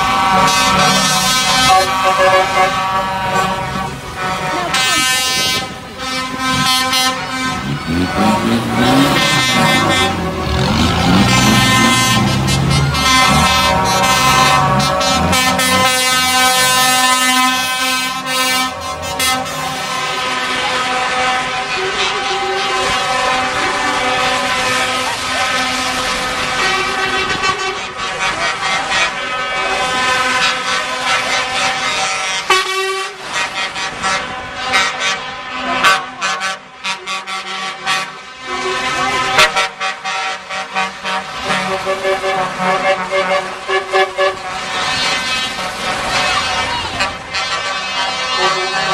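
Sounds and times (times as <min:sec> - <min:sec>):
diesel engines running: 0:00.0 - 0:48.9
lorry air horns blasting: 0:00.0 - 0:48.9.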